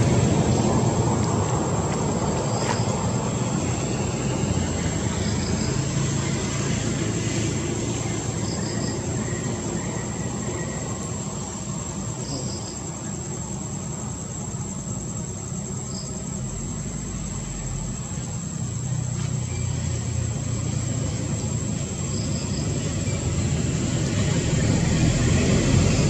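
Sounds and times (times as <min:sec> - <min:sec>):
low rumble of distant traffic: 0:00.0 - 0:26.0.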